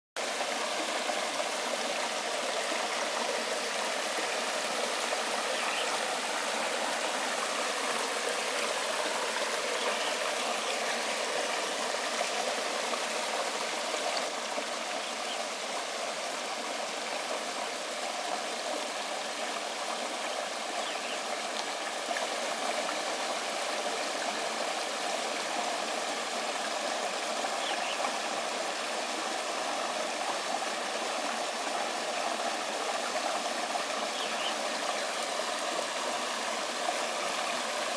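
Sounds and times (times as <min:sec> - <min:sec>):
waterfall rushing and splashing: 0:00.2 - 0:37.9.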